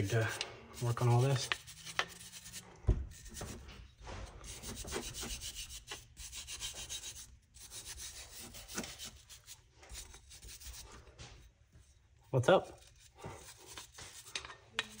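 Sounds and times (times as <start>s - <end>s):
hand brush scrubbing rusty metal: 0.0s - 11.0s, 12.6s - 15.0s.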